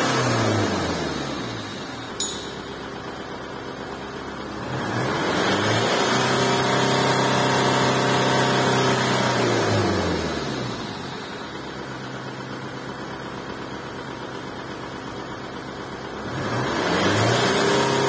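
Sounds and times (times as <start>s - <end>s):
diesel engine revving then idling: 0.0s - 2.2s, 2.8s - 18.0s.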